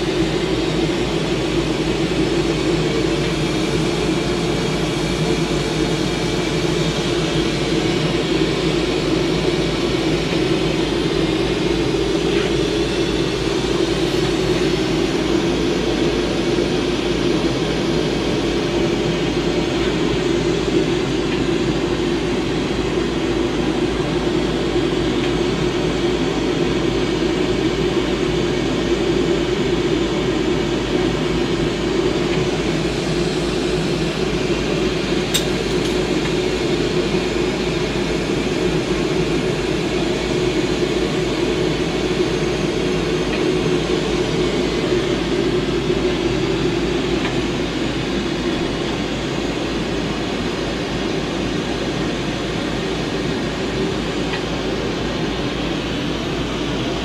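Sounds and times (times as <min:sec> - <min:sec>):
exhaust fan humming: 0:00.0 - 0:57.0.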